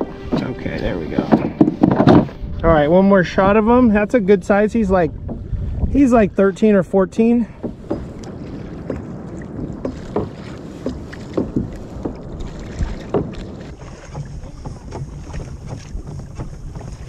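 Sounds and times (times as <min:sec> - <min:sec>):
water lapping against hull: 0:00.0 - 0:17.0
wind on microphone: 0:00.0 - 0:17.0.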